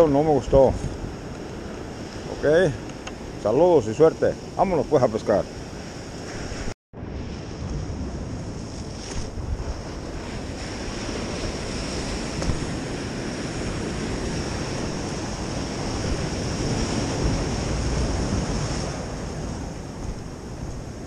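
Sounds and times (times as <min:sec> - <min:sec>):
wind buffeting microphone: 0:00.0 - 0:04.7, 0:05.4 - 0:21.0
ocean surf against rocks: 0:00.0 - 0:21.0.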